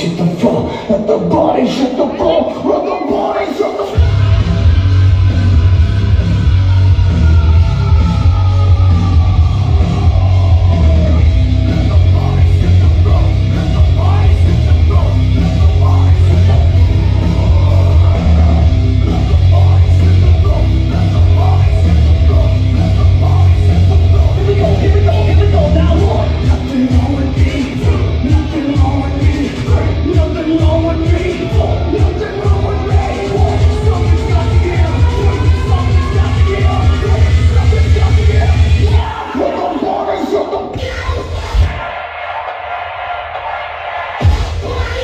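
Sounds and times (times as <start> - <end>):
loud dubstep music: 0.0 - 45.0
shouted vocal fragments: 0.0 - 45.0.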